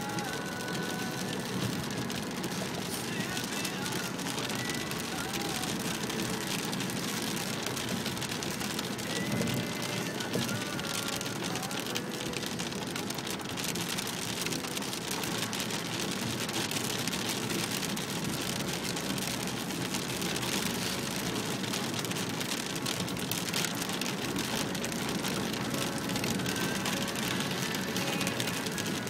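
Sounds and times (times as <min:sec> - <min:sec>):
car road noise: 0:00.0 - 0:29.0
heavy rain on a car: 0:00.0 - 0:29.0.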